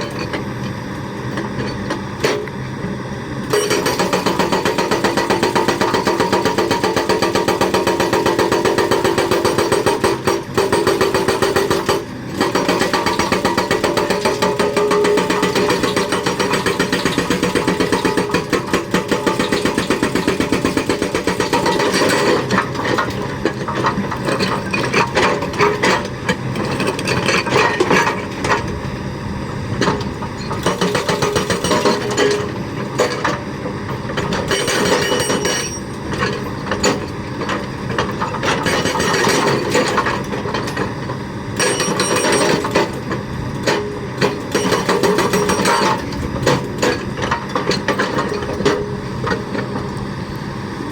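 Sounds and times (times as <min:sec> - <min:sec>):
hydraulic breaker hammering: 0:03.5 - 0:28.8, 0:29.8 - 0:41.0, 0:41.6 - 0:49.9.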